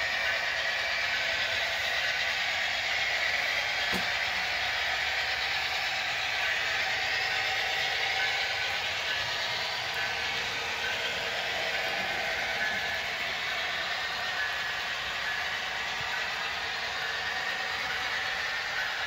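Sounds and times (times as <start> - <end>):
model train whirring: 0.0 - 19.0.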